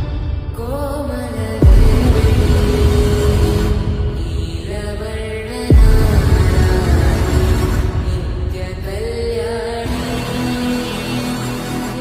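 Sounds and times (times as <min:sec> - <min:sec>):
heavy bass: 0:00.0 - 0:12.0.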